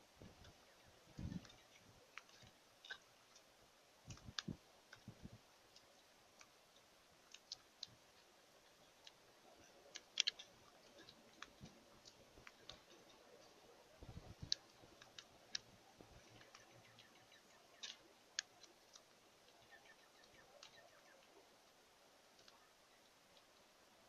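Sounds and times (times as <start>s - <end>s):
faint clicks and taps: 0.2s - 21.4s, 22.3s - 23.7s.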